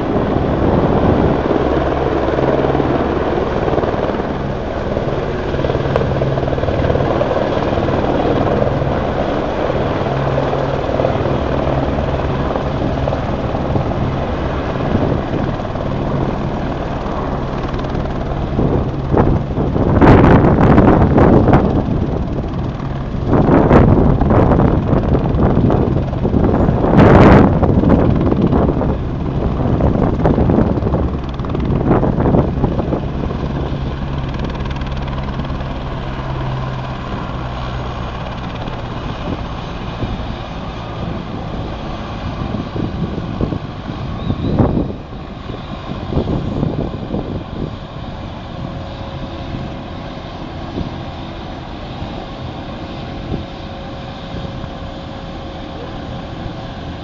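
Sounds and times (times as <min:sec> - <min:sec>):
helicopter rotor hum: 0:00.0 - 0:57.0
wind gusts on microphone: 0:00.0 - 0:57.0.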